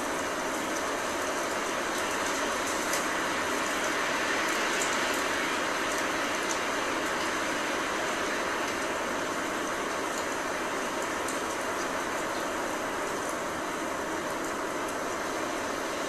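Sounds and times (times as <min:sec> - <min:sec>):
blizzard wind and rain: 0:00.0 - 0:16.0.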